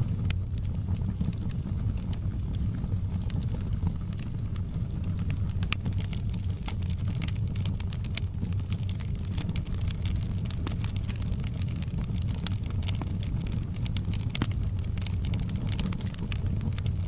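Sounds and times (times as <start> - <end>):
fire crackling and popping: 0.0 - 17.0
low rumble of flame: 0.0 - 17.0.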